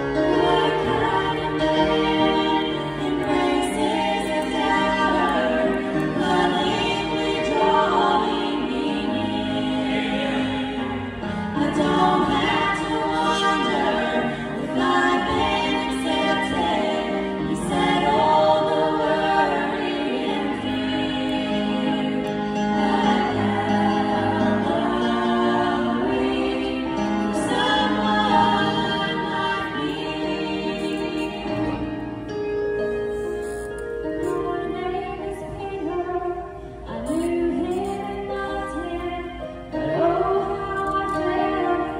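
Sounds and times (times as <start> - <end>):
women singing in harmony: 0.0 - 32.6, 33.4 - 41.9
piano accompaniment: 0.0 - 41.9.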